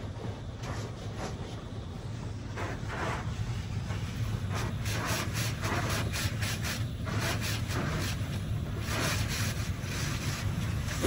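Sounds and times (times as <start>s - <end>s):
steady low hum: 0.0s - 11.0s
water spray hissing on car: 0.1s - 11.0s.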